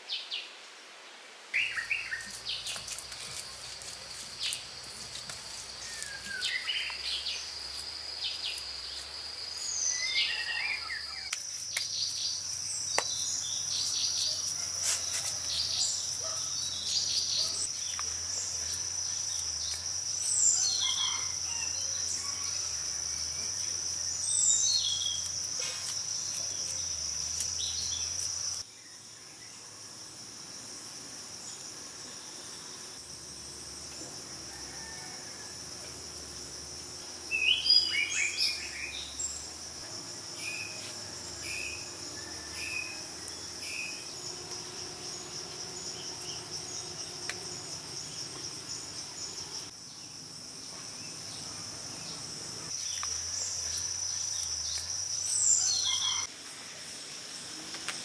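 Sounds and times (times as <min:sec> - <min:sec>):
insects droning: 0:00.4 - 0:58.0.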